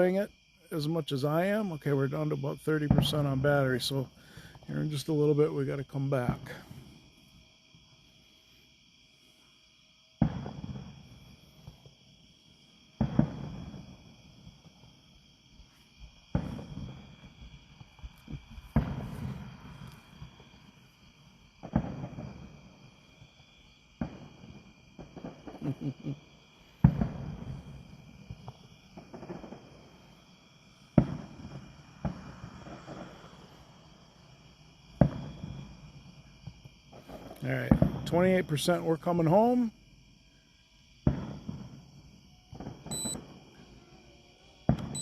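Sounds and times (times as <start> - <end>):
fireworks crackling: 0.0 - 7.3, 10.2 - 39.7, 41.0 - 45.0
crickets trilling: 0.0 - 45.0
distant fireworks booming: 0.0 - 45.0.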